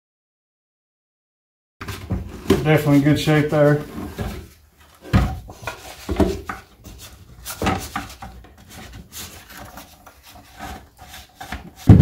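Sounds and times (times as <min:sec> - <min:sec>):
wood rubbing and scraping: 0:01.8 - 0:12.0.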